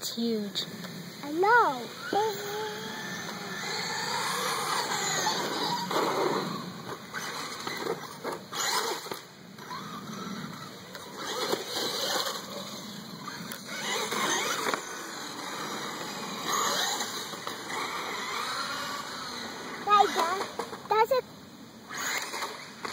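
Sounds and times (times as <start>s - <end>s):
electric motor whining: 1.0s - 21.1s, 21.8s - 22.9s.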